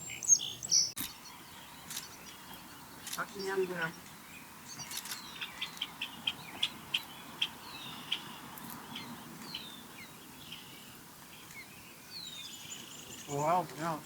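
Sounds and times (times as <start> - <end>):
birds chirping: 0.0 - 14.0
faint outdoor background noise: 0.0 - 14.0.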